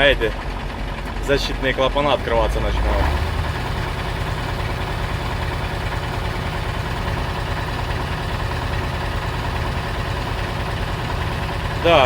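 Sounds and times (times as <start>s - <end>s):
diesel truck engine idling: 0.0s - 12.0s
air compressor rattling: 0.1s - 12.0s.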